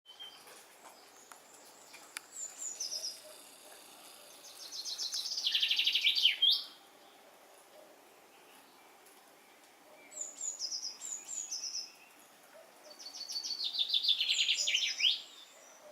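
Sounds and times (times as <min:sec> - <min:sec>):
songbird singing: 0:00.1 - 0:15.9.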